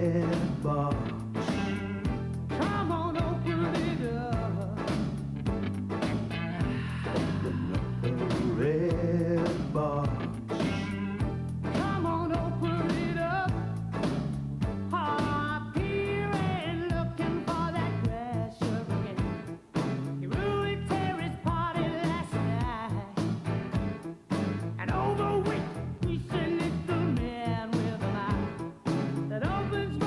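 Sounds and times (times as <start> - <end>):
lead vocal singing: 0.0 - 5.1, 6.2 - 14.2, 14.9 - 19.4, 20.2 - 23.3, 24.8 - 30.0
bass line: 0.0 - 30.0
steady drum beat: 0.0 - 30.0.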